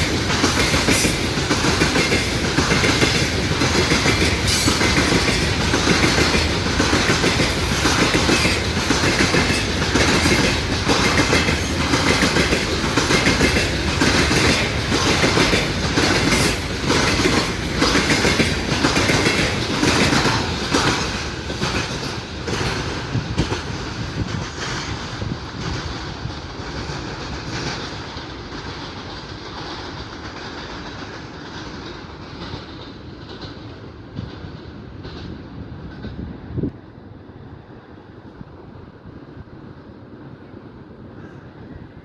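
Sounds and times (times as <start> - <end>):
train wheels clickety-clack: 0.0 - 36.8.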